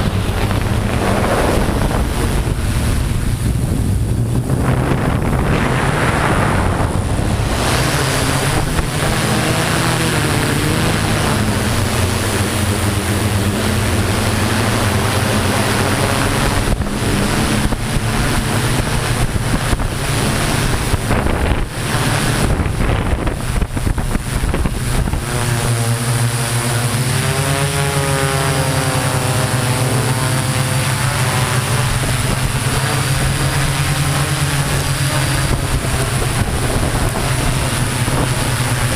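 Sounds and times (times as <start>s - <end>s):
drone motors and propellers: 0.0s - 38.9s
wind noise on microphone: 0.0s - 38.9s.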